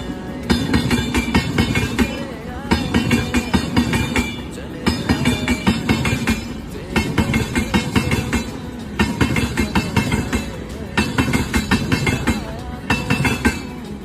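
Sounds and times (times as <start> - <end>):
high-pitched metallic ringing: 0.0 - 14.0
train wheels clattering over rail joints: 0.0 - 14.0.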